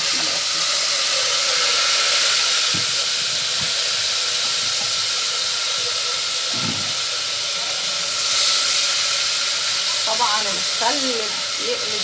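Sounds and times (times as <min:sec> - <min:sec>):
vinegar sizzling in hot oil: 0:00.0 - 0:12.0.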